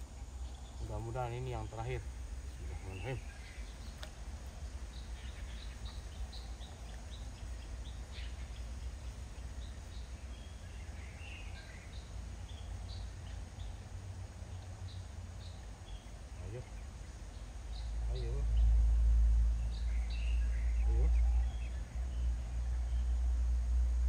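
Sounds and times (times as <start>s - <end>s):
birds chirping: 0.0s - 23.8s
low outdoor background rumble: 0.0s - 24.0s.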